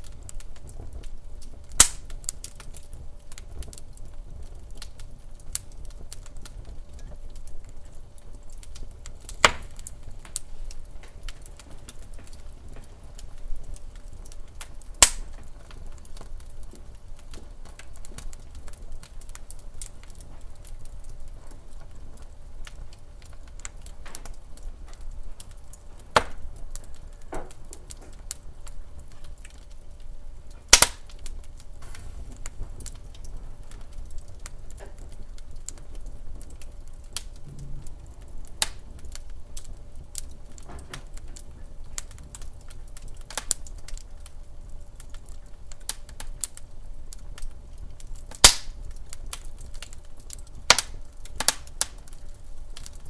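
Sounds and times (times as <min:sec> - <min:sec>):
faint low rumble: 0:00.0 - 0:45.7
fire popping: 0:00.0 - 0:53.0
wood fire crackling: 0:00.0 - 0:53.0.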